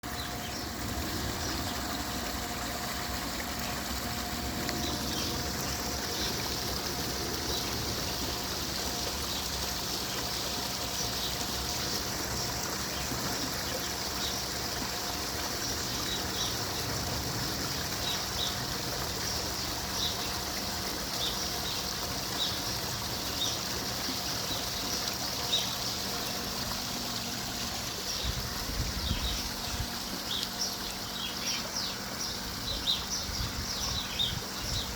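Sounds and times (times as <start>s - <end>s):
water trickling: 0.0s - 34.9s.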